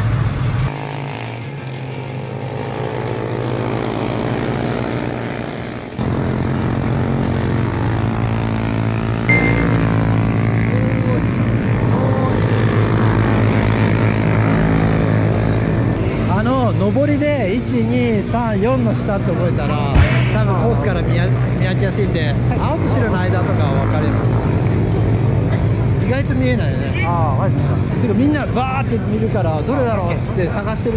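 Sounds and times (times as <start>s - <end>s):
racing motorcycle engines buzzing: 0.0s - 30.9s.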